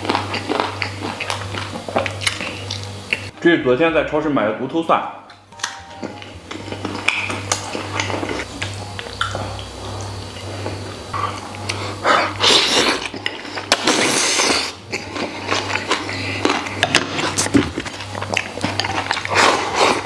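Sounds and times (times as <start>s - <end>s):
chewing and slurping food: 0.0s - 3.3s, 6.0s - 20.0s.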